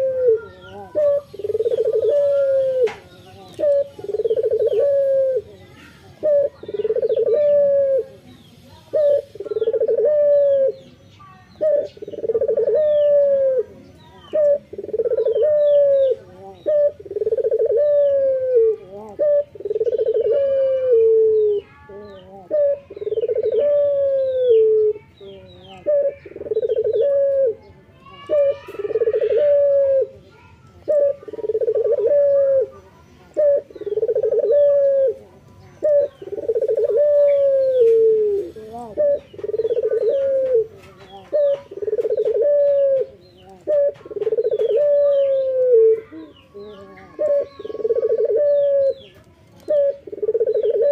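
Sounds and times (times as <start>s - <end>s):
dove cooing: 0.0s - 50.9s
small birds chirping: 0.0s - 50.9s.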